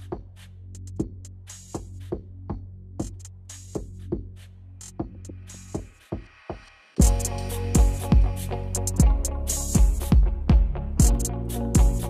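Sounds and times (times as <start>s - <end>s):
electronic drum beat and bass music: 0.0s - 12.0s.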